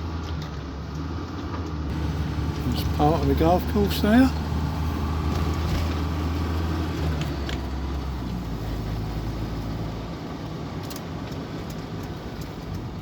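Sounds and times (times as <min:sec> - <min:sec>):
motorhome engine drone: 0:00.0 - 0:13.0
road noise: 0:00.0 - 0:13.0.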